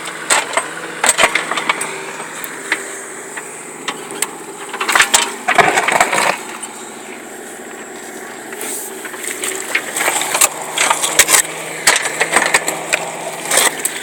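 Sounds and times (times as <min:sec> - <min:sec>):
engine running: 0:00.0 - 0:14.0
gritty scraping crunch: 0:00.0 - 0:14.0.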